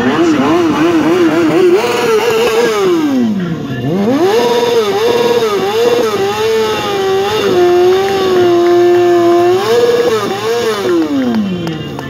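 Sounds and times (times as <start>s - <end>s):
motorcycle engine revving hard: 0.0s - 12.0s.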